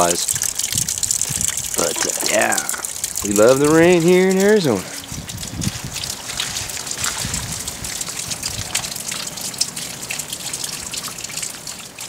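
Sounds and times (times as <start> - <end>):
rain splashing into water: 0.0 - 12.0
sharp water drips: 0.0 - 12.0.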